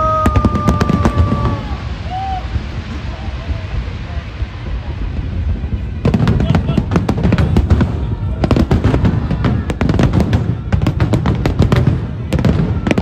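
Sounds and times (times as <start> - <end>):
continuous low rumble: 0.0 - 13.0
fireworks bangs and crackles: 0.0 - 13.0.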